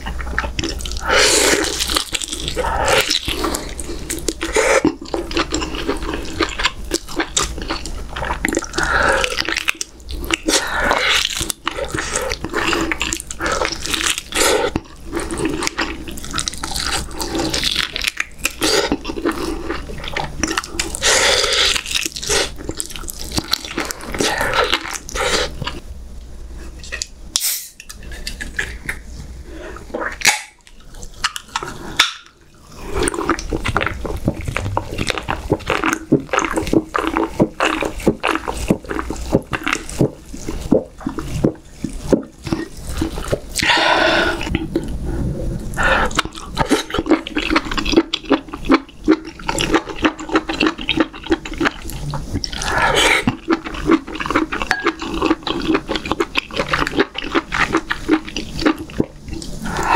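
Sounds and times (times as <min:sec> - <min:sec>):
wet chewing and lip-smacking: 0:00.0 - 0:25.8, 0:30.0 - 0:45.0, 0:45.7 - 0:59.9.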